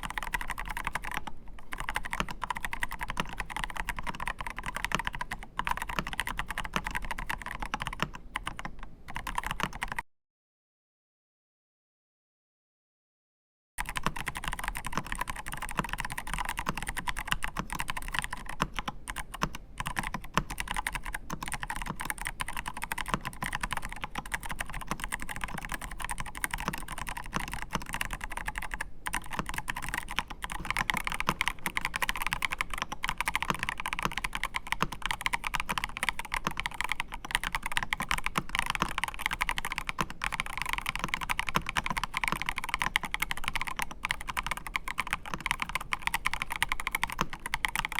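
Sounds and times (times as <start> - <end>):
mechanical keyboard typing: 0.0 - 10.0, 13.8 - 47.9.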